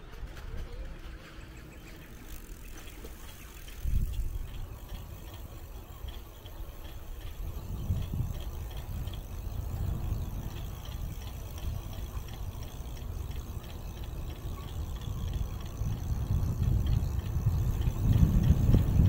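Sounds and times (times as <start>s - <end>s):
vehicle rumble in motion: 0.0s - 19.0s.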